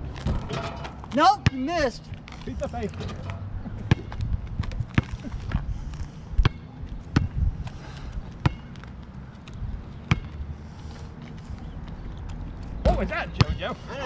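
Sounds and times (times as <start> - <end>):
basketball bouncing on asphalt: 0.0 - 2.4, 3.0 - 10.6, 11.9 - 13.6.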